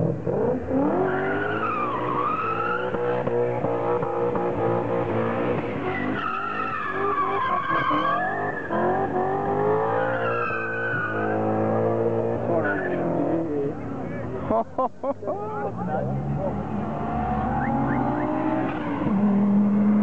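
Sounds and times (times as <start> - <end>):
car engine revving hard: 0.0 - 13.5, 15.9 - 20.0.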